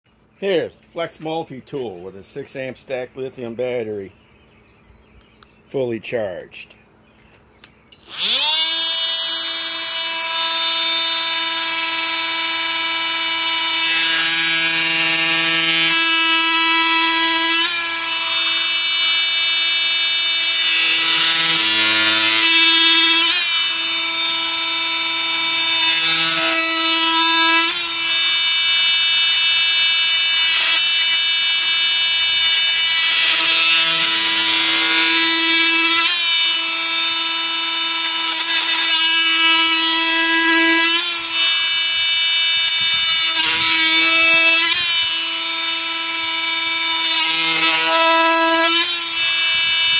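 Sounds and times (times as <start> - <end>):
oscillating multi-tool cutting wood: 8.0 - 49.9.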